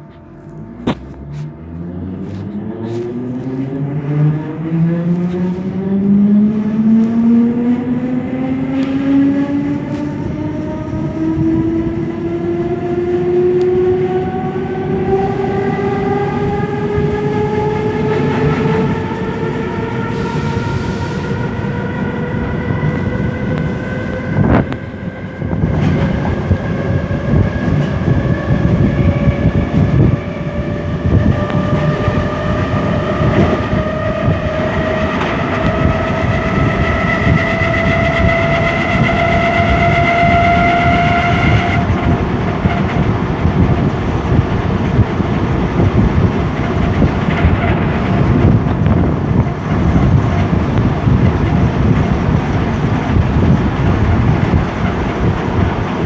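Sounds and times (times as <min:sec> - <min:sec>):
electric train drive whine: 0:00.0 - 0:56.0
train wheels rumbling on rails: 0:00.0 - 0:56.0.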